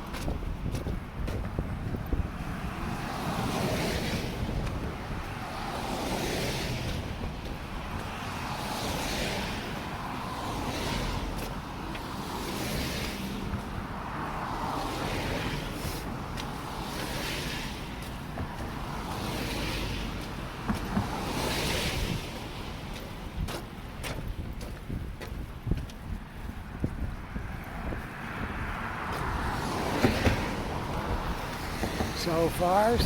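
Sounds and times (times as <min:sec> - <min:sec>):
cars passing on a road: 0:00.0 - 0:33.0
wind rumble on microphone: 0:00.0 - 0:33.0.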